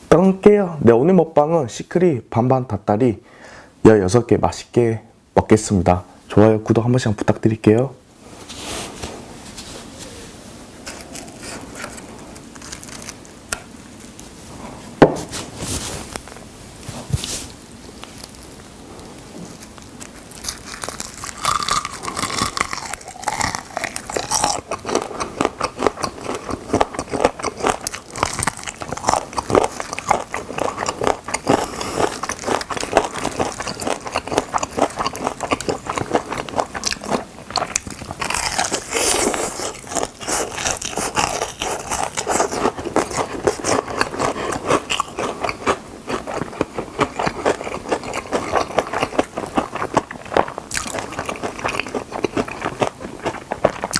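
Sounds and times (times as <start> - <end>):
crunchy chewing of fried chicken: 10.6 - 53.9.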